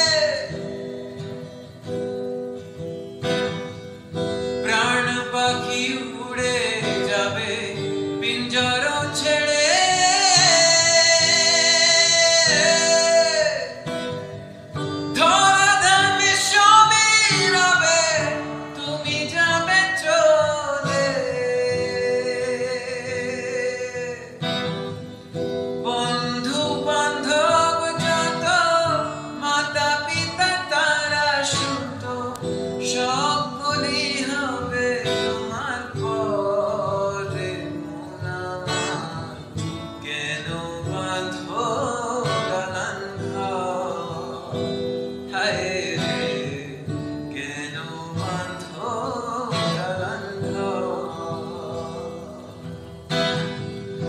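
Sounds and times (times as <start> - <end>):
man singing: 0.0 - 1.7, 4.5 - 25.0, 25.7 - 54.0
acoustic guitar strumming chords: 0.0 - 54.0.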